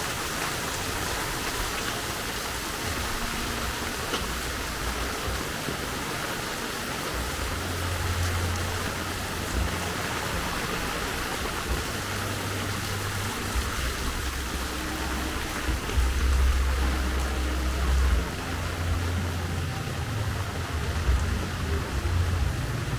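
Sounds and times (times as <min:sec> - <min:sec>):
motor vehicles passing: 0:00.0 - 0:22.9
steady rain: 0:00.0 - 0:22.9.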